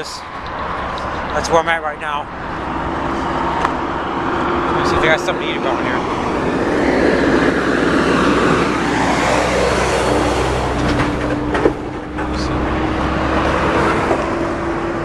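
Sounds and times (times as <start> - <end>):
freeway traffic passing: 0.0 - 15.0.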